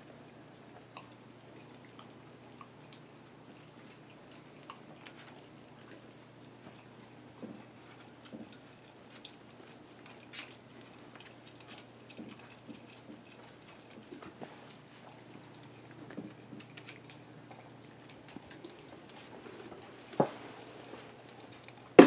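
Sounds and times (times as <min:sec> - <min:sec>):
dog chewing food: 0:00.0 - 0:22.0.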